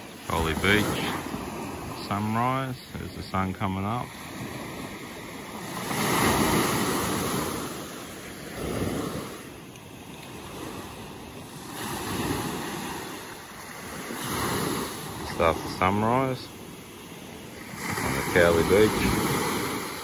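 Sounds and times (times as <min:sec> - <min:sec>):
small waves washing up beach: 0:00.0 - 0:20.0.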